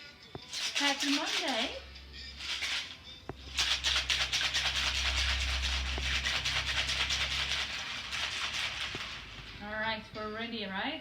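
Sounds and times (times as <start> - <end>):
ice rattling in cocktail shaker: 0.4 - 9.6.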